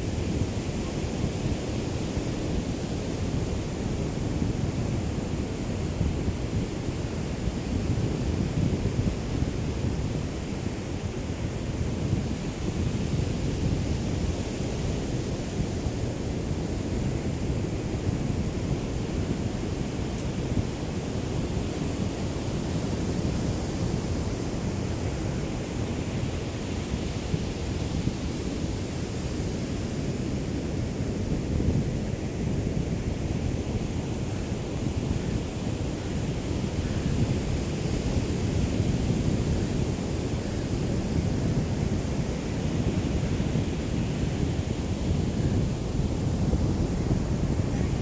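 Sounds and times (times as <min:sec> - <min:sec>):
light breeze: 0:00.0 - 0:48.0
wind rumble on microphone: 0:00.0 - 0:48.0.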